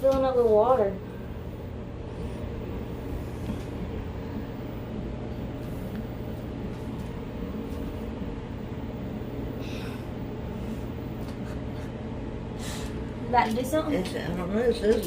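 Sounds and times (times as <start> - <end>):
constant low hum: 0.0 - 15.0.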